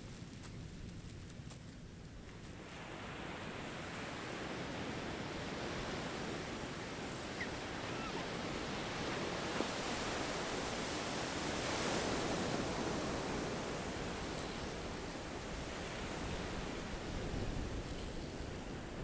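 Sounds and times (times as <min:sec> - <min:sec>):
ocean waves breaking: 0:02.6 - 0:17.9.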